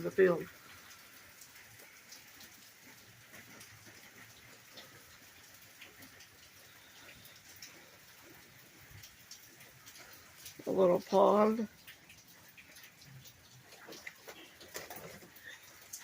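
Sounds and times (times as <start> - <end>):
rain hissing: 0.0 - 16.0
raindrops ticking: 0.0 - 16.0.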